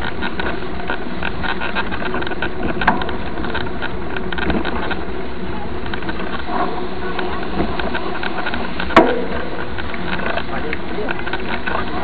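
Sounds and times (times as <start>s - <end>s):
fine rattle from bike: 0.0s - 12.0s
wind and tyre rumble: 0.0s - 12.0s.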